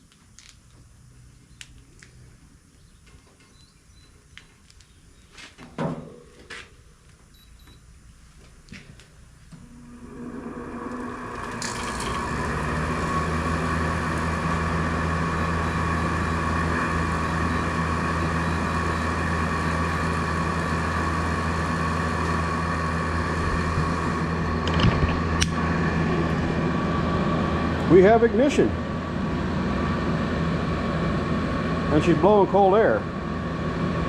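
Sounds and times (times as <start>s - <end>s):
air conditioner humming: 0.0s - 34.0s.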